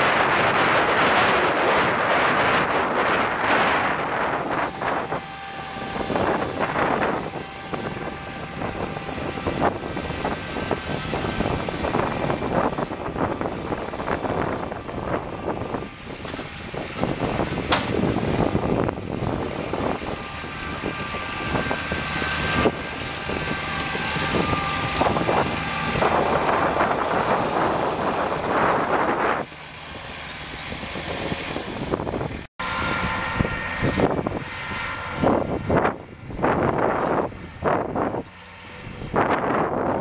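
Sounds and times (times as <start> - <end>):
steady high whine: 0.0 - 39.7
diesel tractor engine running: 0.0 - 40.0.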